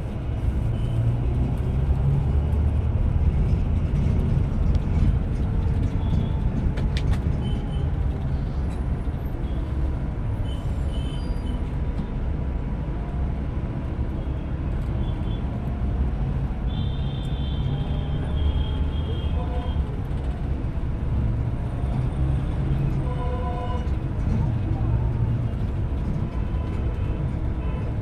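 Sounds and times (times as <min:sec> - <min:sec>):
coach engine low rumble: 0:00.0 - 0:28.0.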